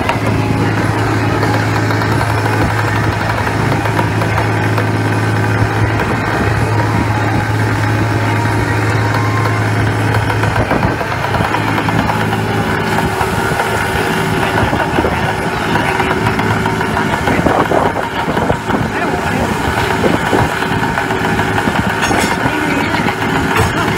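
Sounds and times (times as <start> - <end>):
boat engine humming: 0.0 - 23.9
sea rushing along hull: 0.0 - 23.9.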